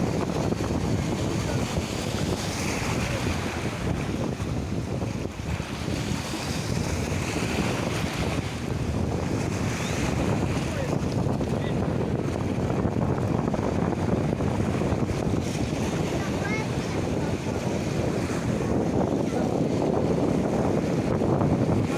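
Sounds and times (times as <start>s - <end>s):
sea waves: 0.0s - 21.9s
wind buffeting microphone: 0.0s - 21.9s.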